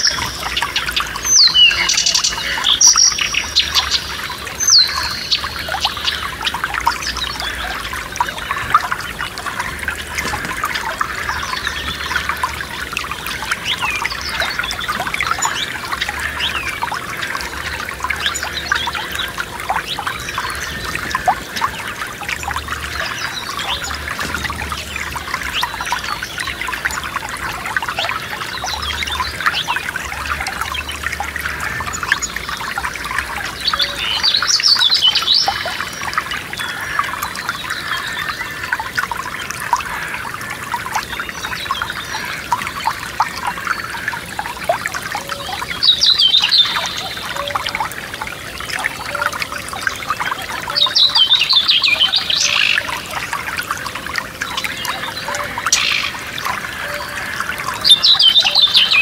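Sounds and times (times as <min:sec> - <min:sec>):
songbird singing: 0:00.0 - 0:38.8, 0:40.9 - 0:59.0
stream babbling over stones: 0:00.0 - 0:59.0.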